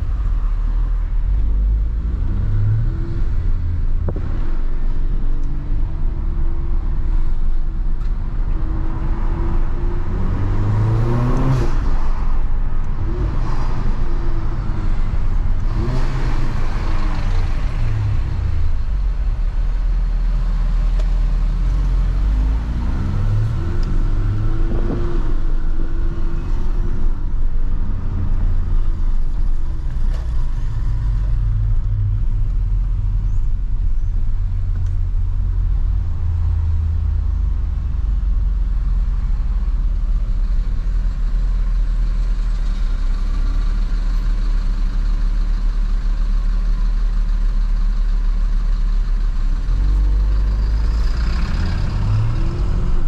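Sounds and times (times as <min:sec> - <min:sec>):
car engine droning while driving: 0:00.0 - 0:53.0.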